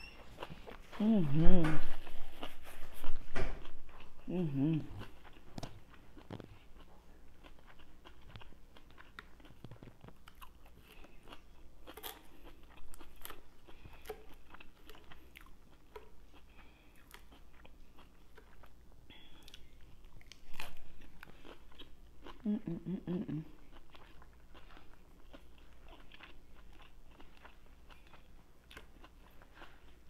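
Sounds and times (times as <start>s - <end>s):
chewing and crunching salad: 0.0s - 30.0s.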